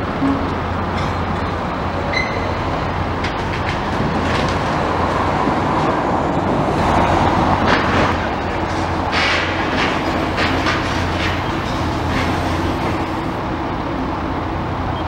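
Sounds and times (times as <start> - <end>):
demolition machinery running: 0.0 - 15.0.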